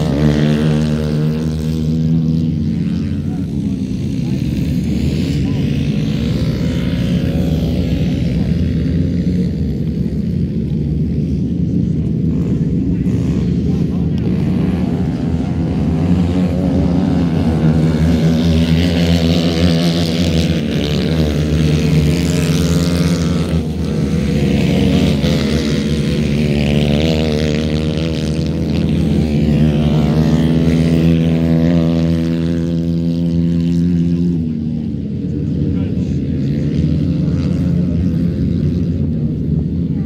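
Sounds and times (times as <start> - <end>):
kart engines racing: 0.0 - 40.0.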